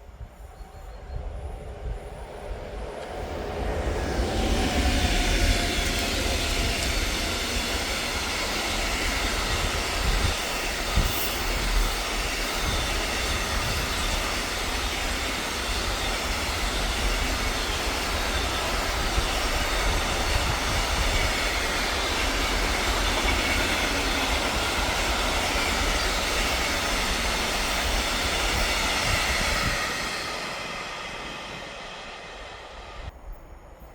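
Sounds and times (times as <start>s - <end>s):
train wheel and rail noise: 0.0s - 33.9s.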